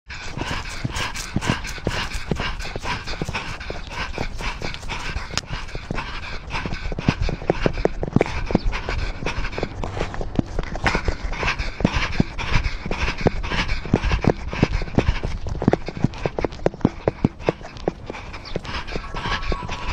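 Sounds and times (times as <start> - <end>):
rapid heavy panting: 0.0 - 19.9
steady low rumble: 0.1 - 19.9.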